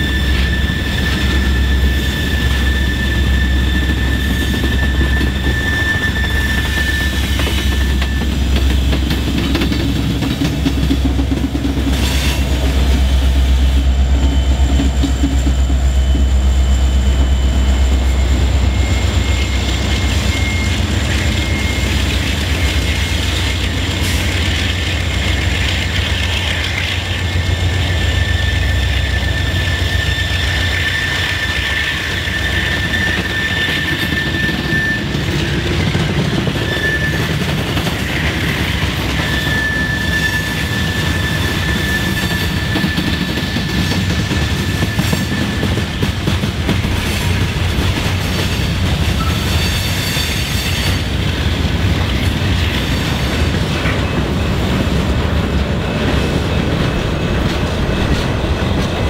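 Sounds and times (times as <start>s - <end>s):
high squeal from train cars: 0.0s - 59.0s
train wheels rumbling on rail: 0.0s - 59.0s.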